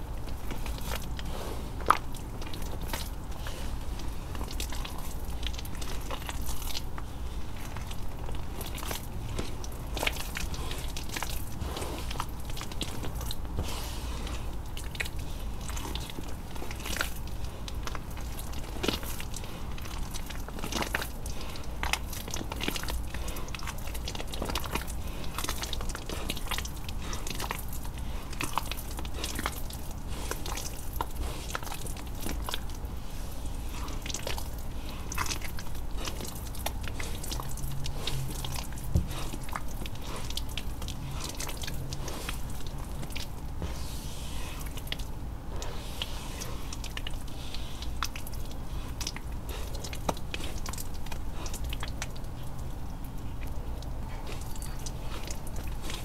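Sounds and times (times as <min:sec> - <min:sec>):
wet paste squishing: 0:00.0 - 0:56.0.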